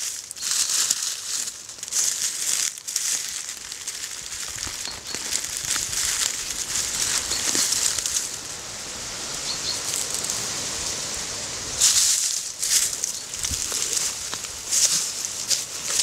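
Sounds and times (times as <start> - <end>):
dry leaves rustling and crackling: 0.0 - 16.0.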